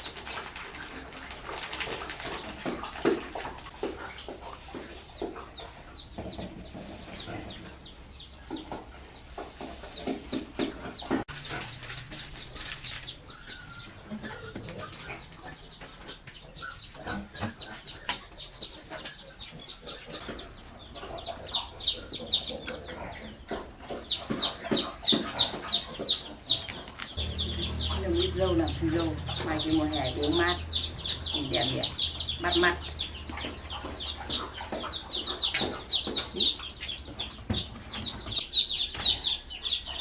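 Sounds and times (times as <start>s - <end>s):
chickens clucking and chirping: 0.0s - 40.0s.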